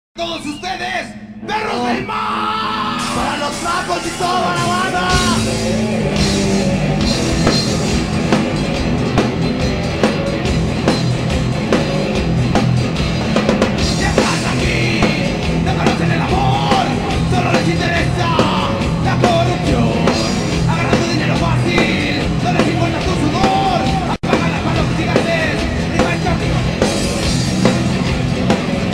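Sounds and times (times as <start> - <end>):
rock band playing live: 0.2 - 28.9
melodic lead line: 0.5 - 28.9
drum kit beat: 3.0 - 28.9.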